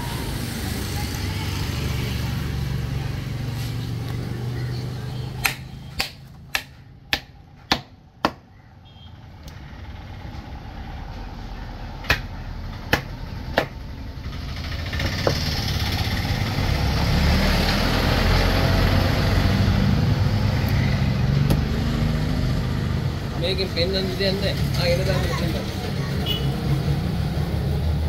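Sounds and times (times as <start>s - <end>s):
motor vehicle engine: 0.0s - 28.0s.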